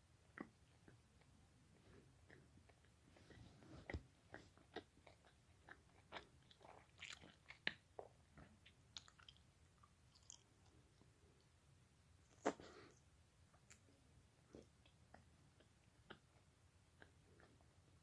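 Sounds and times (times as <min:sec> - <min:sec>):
small moist clicks and crackles: 0:00.2 - 0:11.5, 0:13.5 - 0:18.0
faint biting and chewing: 0:00.3 - 0:10.8, 0:12.3 - 0:18.0.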